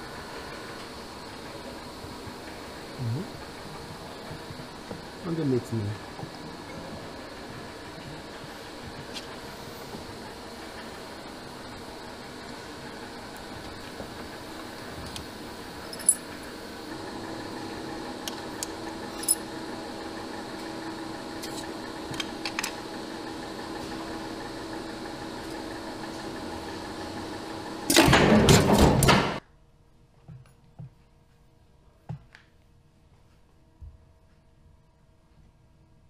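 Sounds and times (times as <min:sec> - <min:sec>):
small machine humming: 0:00.0 - 0:29.4.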